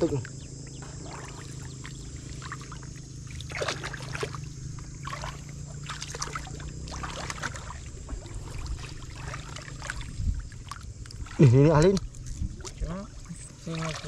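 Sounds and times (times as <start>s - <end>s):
pond water splashing: 0.0s - 14.0s
steady low rumble: 0.0s - 14.0s.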